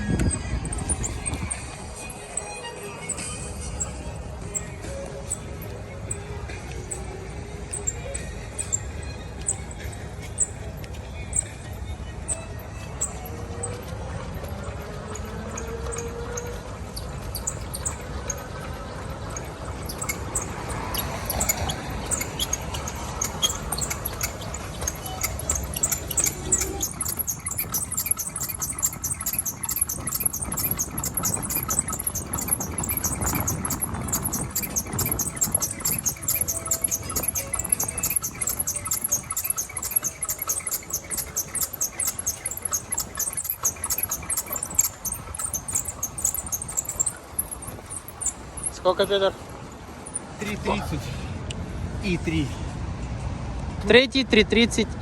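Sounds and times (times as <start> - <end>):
bicycle squeaks and clicks: 0.0 - 51.0.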